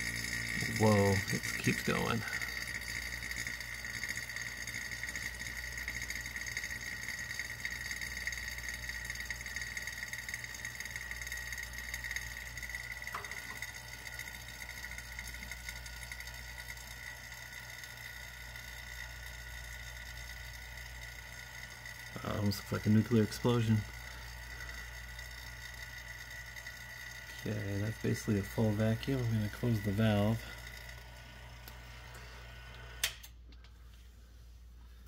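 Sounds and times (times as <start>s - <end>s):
vacuum pump running: 0.0s - 35.0s.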